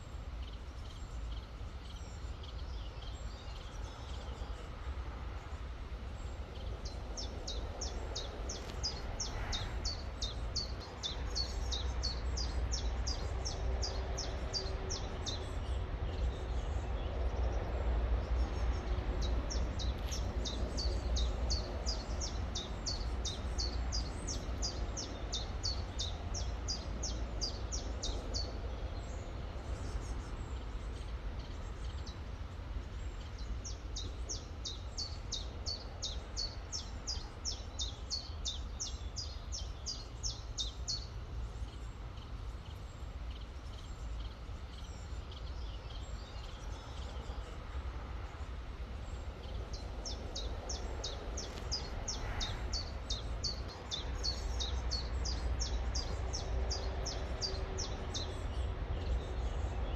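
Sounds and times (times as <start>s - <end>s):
steady low rumble: 3.8s - 59.9s.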